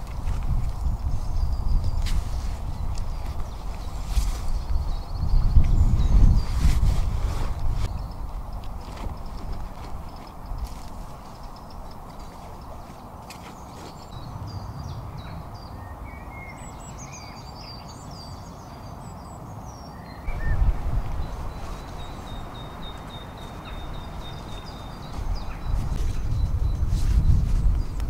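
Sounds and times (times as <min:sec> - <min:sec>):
small birds chirping and trilling: 0:00.0 - 0:28.0
steady outdoor hiss: 0:00.0 - 0:28.0.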